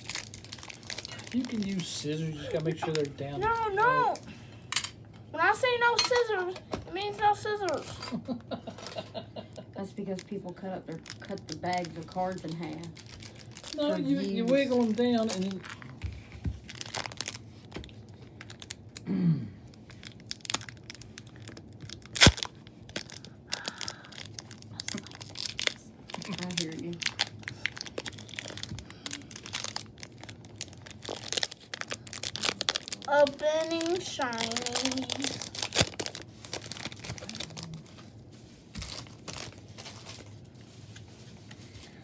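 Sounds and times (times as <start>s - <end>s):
foil wrapper tearing and crinkling: 0.0s - 4.2s, 10.0s - 19.0s, 19.7s - 38.0s, 38.7s - 41.0s.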